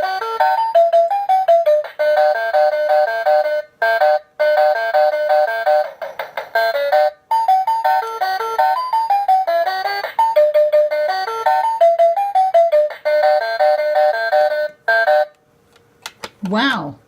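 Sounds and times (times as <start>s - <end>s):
toy electronic beeping tune: 0.0s - 15.4s.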